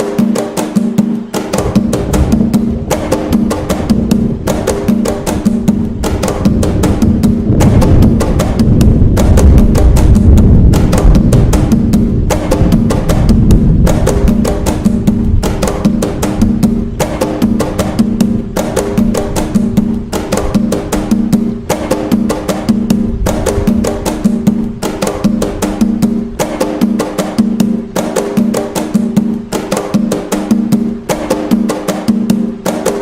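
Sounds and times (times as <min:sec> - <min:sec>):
hand drums playing a rhythm: 0:00.0 - 0:33.0.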